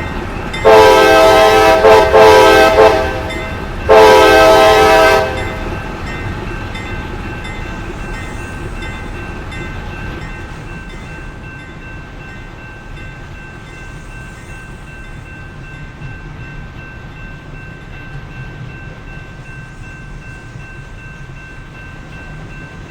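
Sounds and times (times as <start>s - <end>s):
train rumbling past: 0.0s - 22.9s.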